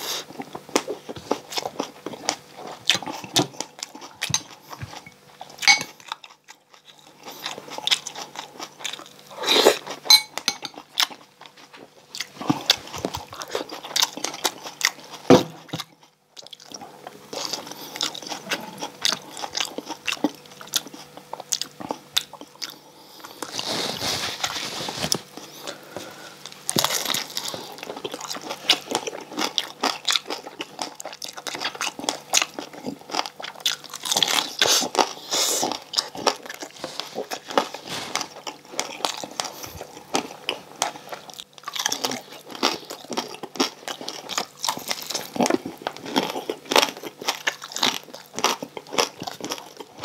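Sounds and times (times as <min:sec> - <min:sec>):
crunchy chewing: 0:00.0 - 0:50.0.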